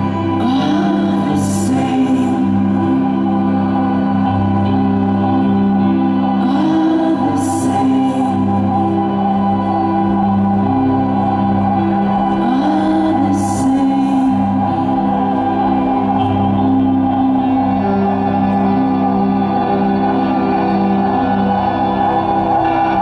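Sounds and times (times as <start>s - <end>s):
electric guitar tones: 0.0s - 23.0s
low sustained drone: 0.0s - 23.0s.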